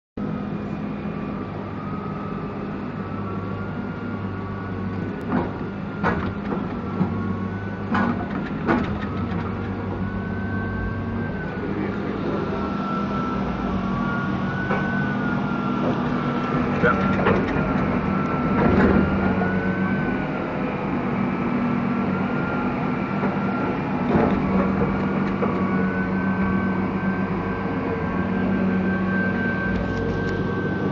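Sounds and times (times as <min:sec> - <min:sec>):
log loader engine drone and whine: 0:00.2 - 0:30.9.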